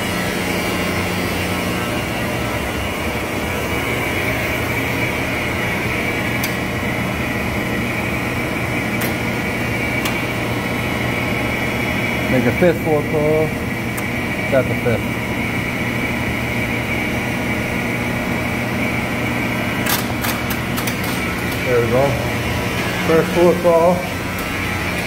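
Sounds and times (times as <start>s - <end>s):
machine room equipment hum: 0.0s - 25.0s.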